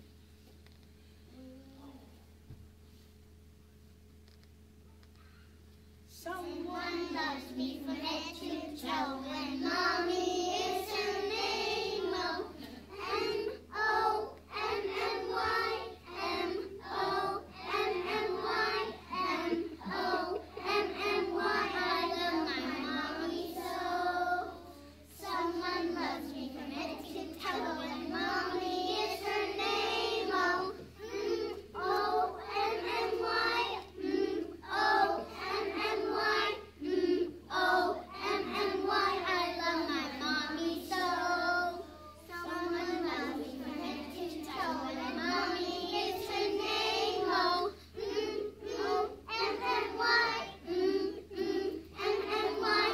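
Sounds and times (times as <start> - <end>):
children singing in unison: 7.4 - 52.9.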